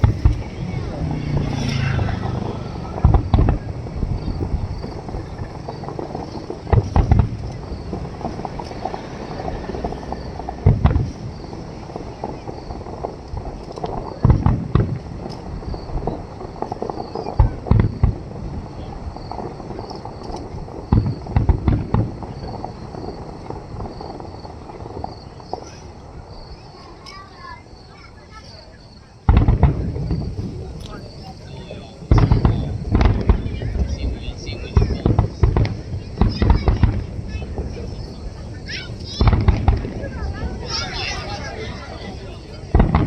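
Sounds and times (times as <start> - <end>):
crowd chatter: 0.0 - 43.0
fireworks booming: 0.0 - 43.0.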